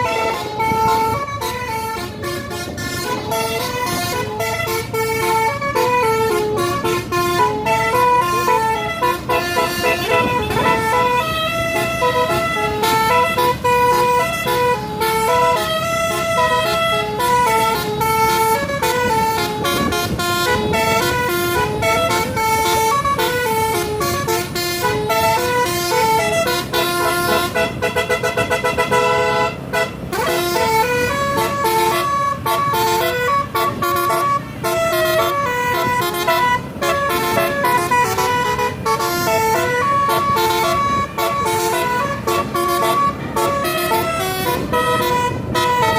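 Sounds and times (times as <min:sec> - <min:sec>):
multi-tone bus horn playing tune: 0:00.0 - 0:45.9.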